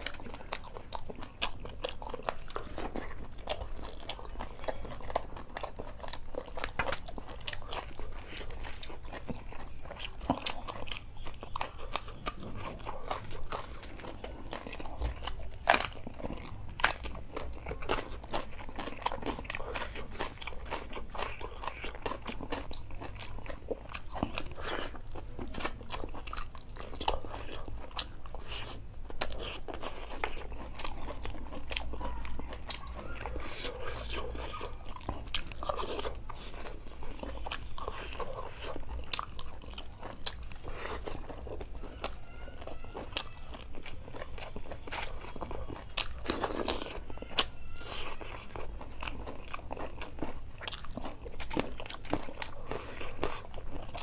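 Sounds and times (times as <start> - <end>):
man chewing food: 0.0 - 54.0.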